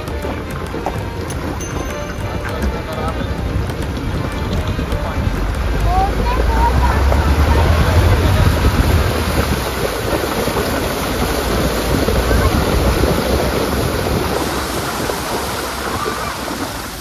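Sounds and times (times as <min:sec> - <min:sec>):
tyres splashing through water: 0:00.0 - 0:17.0
wind buffeting microphone: 0:00.0 - 0:17.0.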